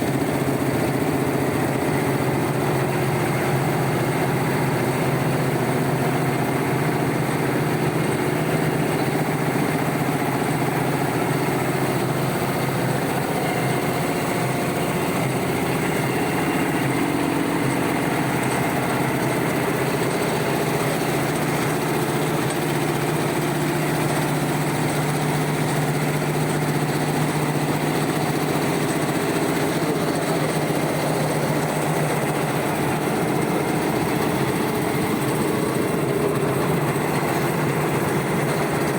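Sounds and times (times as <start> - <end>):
knitting machine clatter and hum: 0.0 - 38.9.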